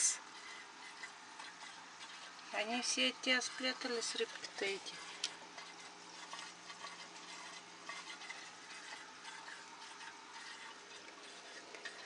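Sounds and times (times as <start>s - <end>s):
aquarium aerator bubbling: 0.0s - 12.0s
faint steady hum: 0.0s - 12.0s.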